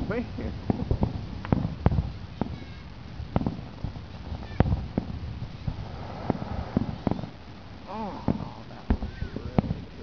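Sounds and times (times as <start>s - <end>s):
distant fireworks bangs: 0.0s - 10.0s.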